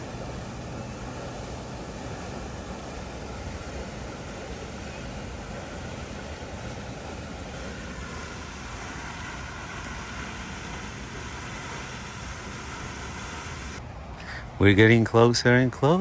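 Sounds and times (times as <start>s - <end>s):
bicycle wheels rolling: 0.0s - 13.8s.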